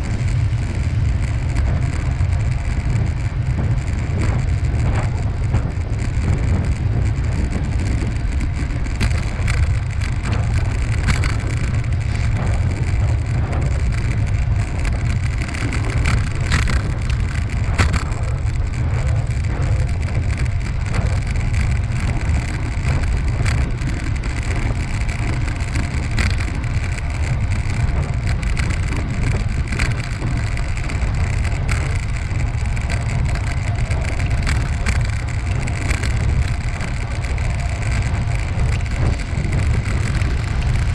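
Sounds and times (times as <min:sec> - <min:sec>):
bicycle clicks and rattles: 0:00.0 - 0:40.9
bicycle tyres rolling: 0:00.0 - 0:40.9
wind rumble on microphone: 0:00.0 - 0:40.9.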